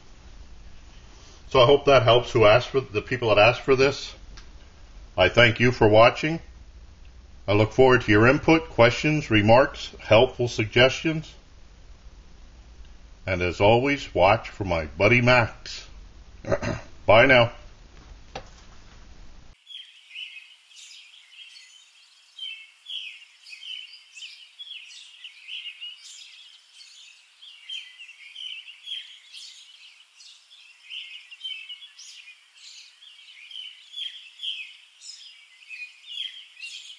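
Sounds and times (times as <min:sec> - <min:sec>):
songbirds chirping and trilling: 0:00.0 - 0:17.5, 0:19.5 - 0:36.9.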